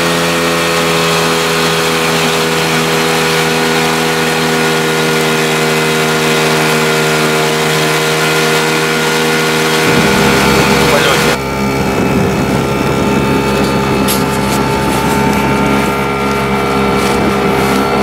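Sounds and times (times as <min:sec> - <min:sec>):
outboard motor droning: 0:00.0 - 0:18.0
water rushing along hull: 0:00.0 - 0:18.0.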